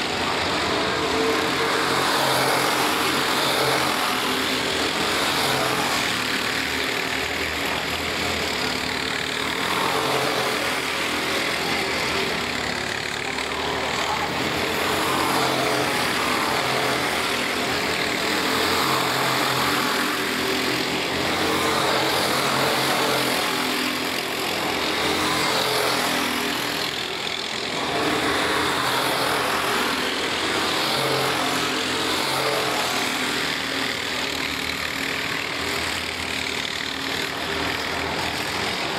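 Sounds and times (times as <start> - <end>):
racing kart engines: 0.0 - 38.9.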